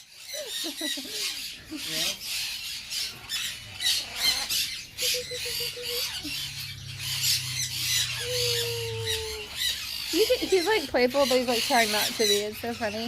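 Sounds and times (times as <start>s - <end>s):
macaws squawking: 0.0s - 13.0s.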